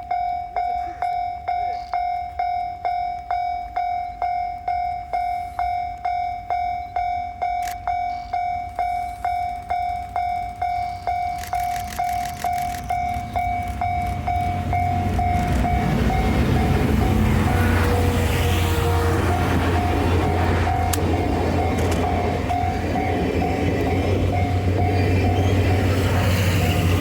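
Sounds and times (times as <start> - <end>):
approaching train rumble: 3.6 - 27.0.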